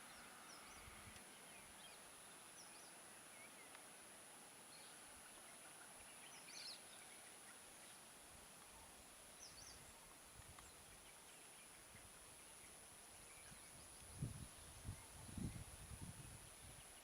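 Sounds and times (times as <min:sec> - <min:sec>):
faint bird chirps: 0:00.0 - 0:03.9, 0:04.6 - 0:17.0.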